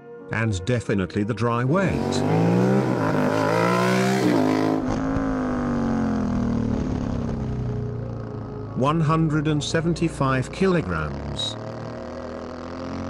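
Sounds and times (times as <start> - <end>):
motorcycle engine accelerating: 1.6 - 13.0.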